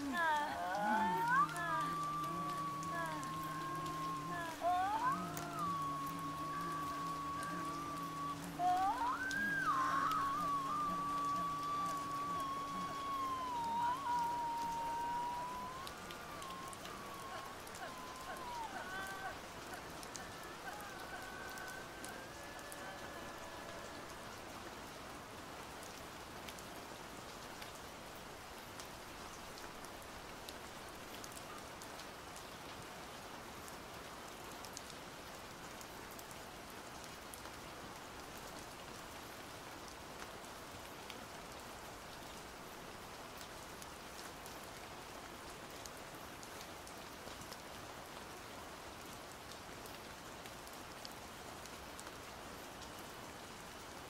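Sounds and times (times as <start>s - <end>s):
rain pattering on foliage: 0.0s - 54.0s.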